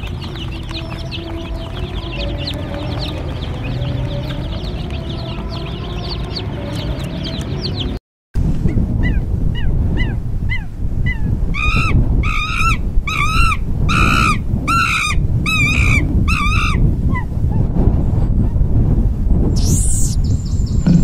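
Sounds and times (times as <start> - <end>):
animal calling: 0.0 - 7.9, 9.0 - 17.3, 19.6 - 21.0.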